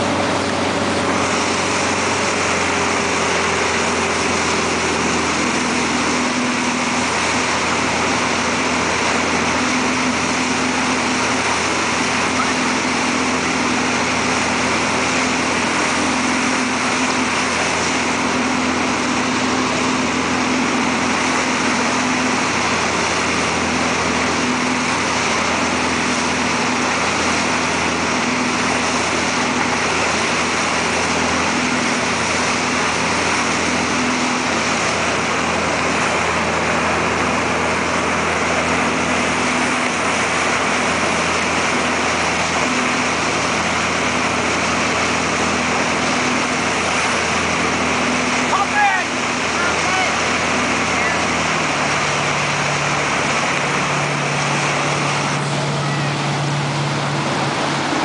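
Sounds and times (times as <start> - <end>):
boat engine running: 0.0 - 58.0
wake rushing: 0.0 - 58.0.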